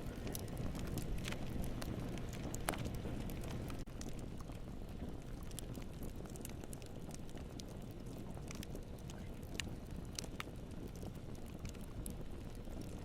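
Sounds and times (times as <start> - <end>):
burning wood crackling and popping: 0.0 - 13.0
campfire flames rumbling: 0.0 - 13.0.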